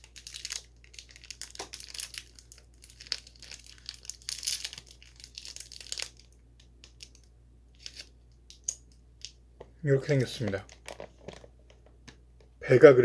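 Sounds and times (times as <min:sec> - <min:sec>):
plastic wrapper crinkling: 0:00.0 - 0:09.4, 0:10.0 - 0:12.2.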